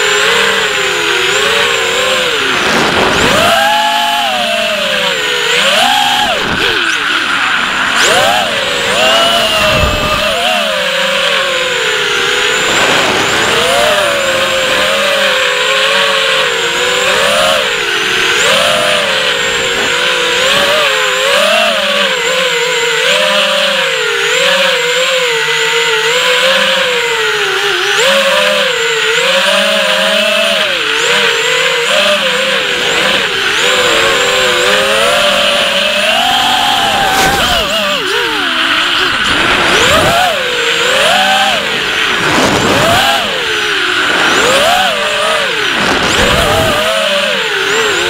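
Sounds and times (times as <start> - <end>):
drone motors whining: 0.0 - 48.0.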